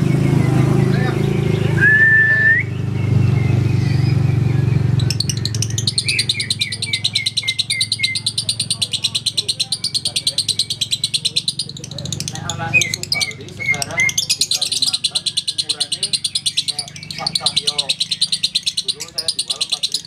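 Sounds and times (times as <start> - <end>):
lovebird chattering trill: 2.8 - 20.0.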